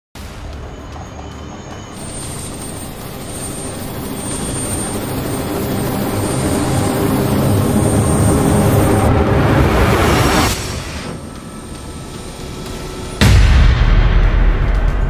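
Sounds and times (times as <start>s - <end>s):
turbine engine whine: 0.2s - 13.5s
helicopter rotors beating: 0.4s - 13.2s.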